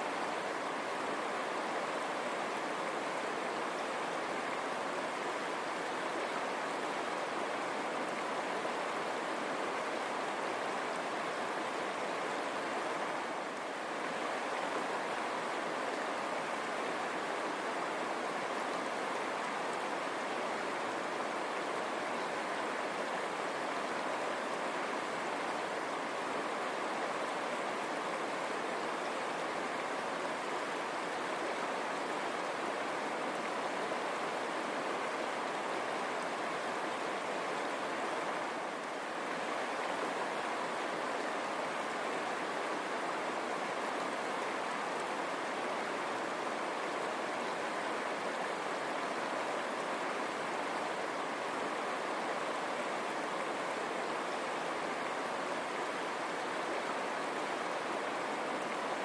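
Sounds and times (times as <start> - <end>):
river water running over rocks: 0.0 - 59.0.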